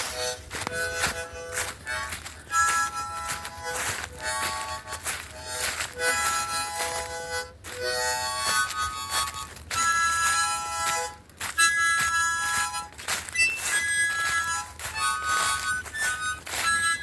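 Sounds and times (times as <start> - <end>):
harmonica melody: 0.0 - 17.0.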